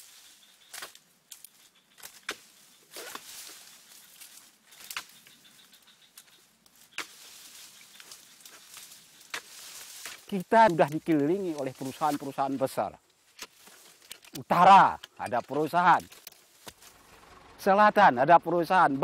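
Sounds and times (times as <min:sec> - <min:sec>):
dry palm fronds rustling: 0:00.0 - 0:17.4.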